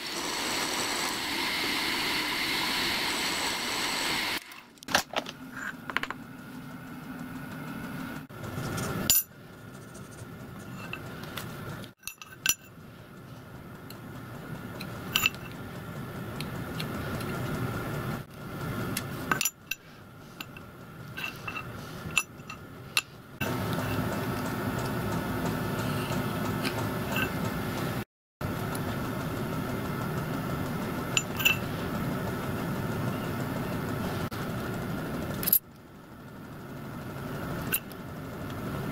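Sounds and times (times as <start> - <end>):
workshop hum: 0.0 - 38.9.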